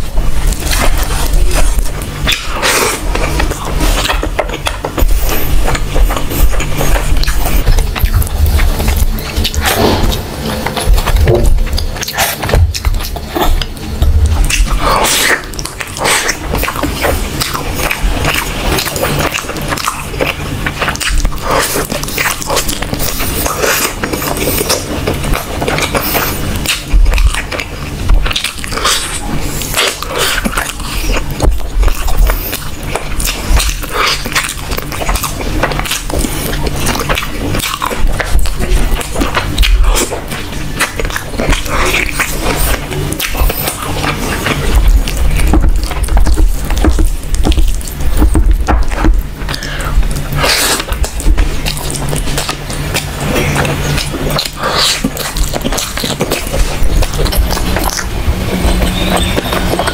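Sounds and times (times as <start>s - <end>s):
person chewing meat off bone: 0.0s - 59.9s.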